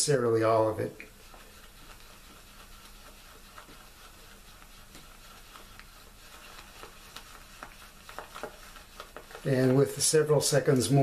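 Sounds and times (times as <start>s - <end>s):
shaving brush whipping lather: 0.0s - 11.0s.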